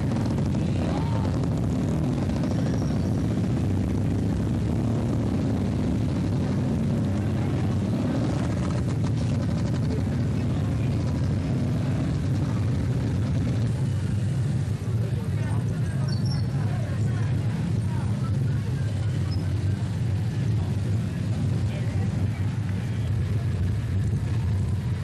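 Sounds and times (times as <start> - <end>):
crowd chatter: 0.0 - 25.0
motorcycle engines rumbling: 0.0 - 25.0.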